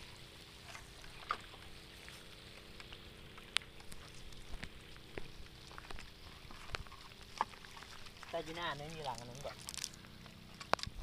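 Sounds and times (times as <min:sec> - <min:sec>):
faint ticks and rustles: 0:00.1 - 0:11.0.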